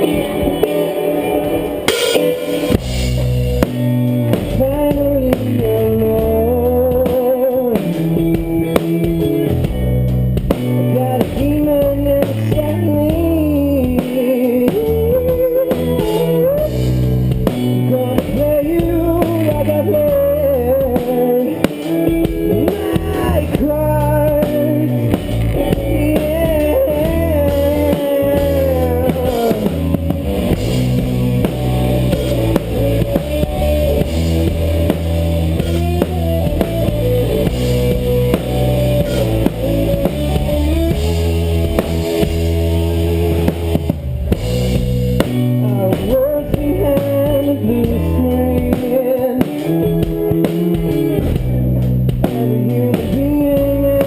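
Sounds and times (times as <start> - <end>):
bass: 0.0 - 54.0
bending lead melody: 0.0 - 54.0
drum kit: 0.0 - 54.0
guitar: 0.0 - 54.0.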